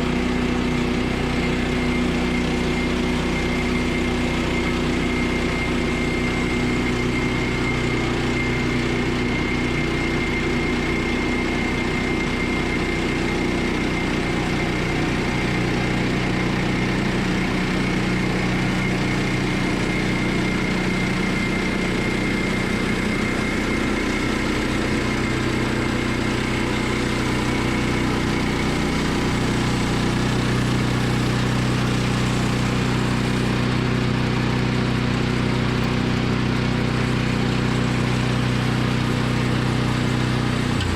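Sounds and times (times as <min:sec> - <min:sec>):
sawmill engine hum: 0:00.0 - 0:40.9.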